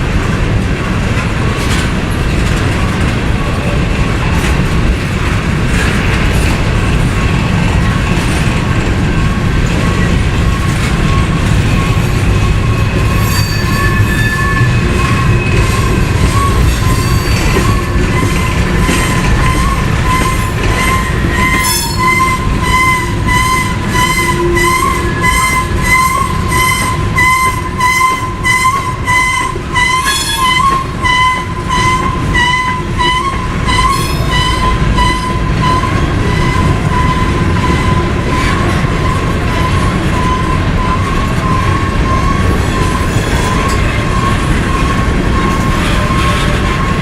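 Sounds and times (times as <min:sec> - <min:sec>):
passing train rumble: 0:00.0 - 0:47.0
crossing bell ringing: 0:06.7 - 0:47.0.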